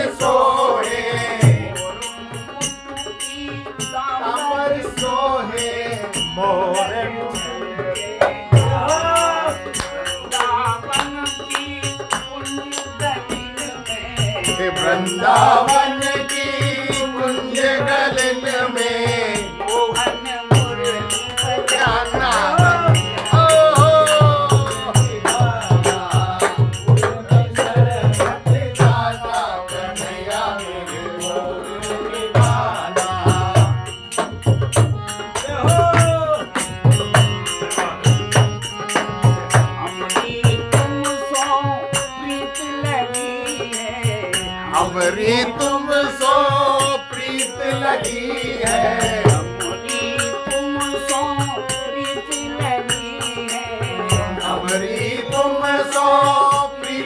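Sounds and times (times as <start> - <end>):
man singing: 0.0 - 57.0.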